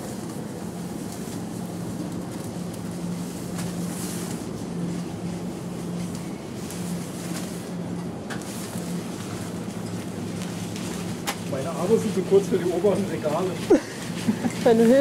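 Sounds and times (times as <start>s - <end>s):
battery fan whirring: 0.0s - 15.0s
faint hum: 0.0s - 15.0s.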